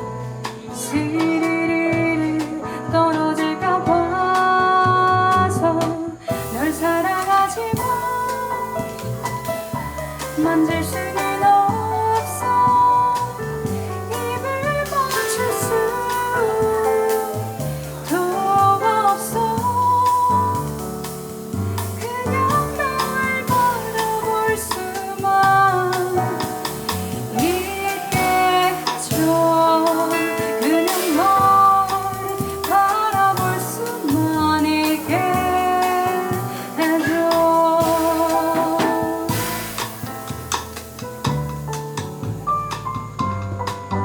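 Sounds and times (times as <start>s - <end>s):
jazz band playing: 0.0s - 44.0s
walking bass line: 6.5s - 29.9s, 31.2s - 44.0s.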